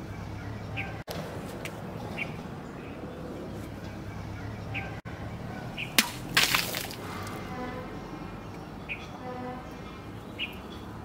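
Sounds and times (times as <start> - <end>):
bird chirps: 0.0 - 1.0, 2.0 - 6.0, 7.1 - 11.0.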